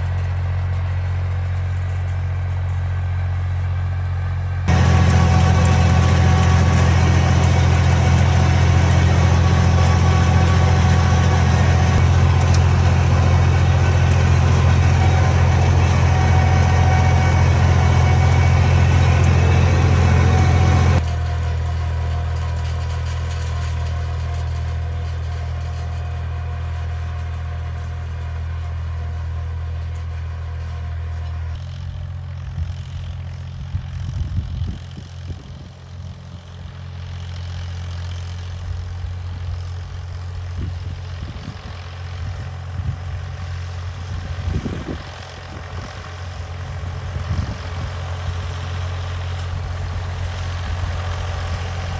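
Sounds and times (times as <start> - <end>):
tractor engine idling: 0.0 - 33.7, 43.3 - 51.9.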